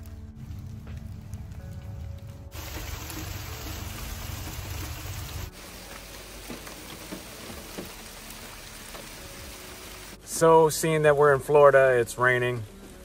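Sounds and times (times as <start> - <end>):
background music with low beat: 0.0 - 13.0
steady rain: 0.0 - 13.0.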